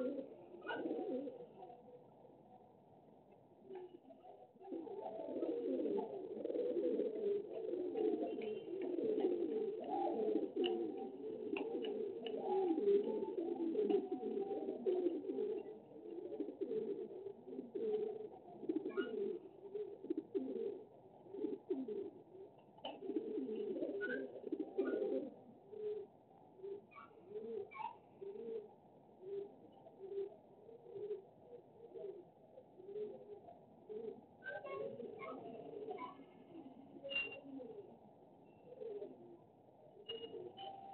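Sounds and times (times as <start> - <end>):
pigeons cooing: 0.0 - 2.6, 3.6 - 40.9.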